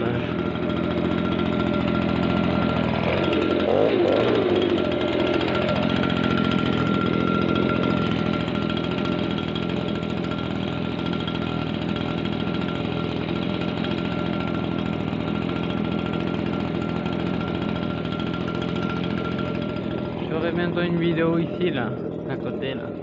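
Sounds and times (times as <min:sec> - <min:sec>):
small petrol engine running: 0:00.0 - 0:23.0
steady high whine: 0:00.0 - 0:23.0.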